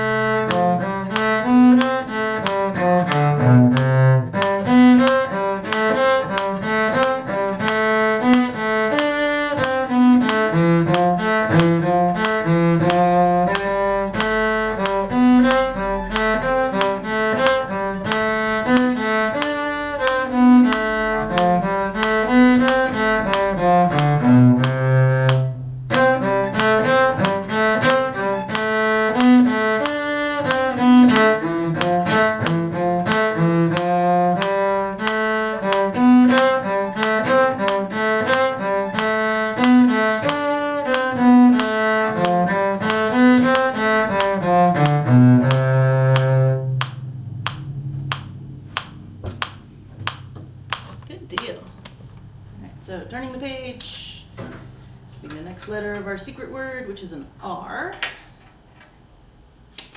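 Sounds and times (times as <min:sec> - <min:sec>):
bowed strings playing tune: 0:00.0 - 0:51.5.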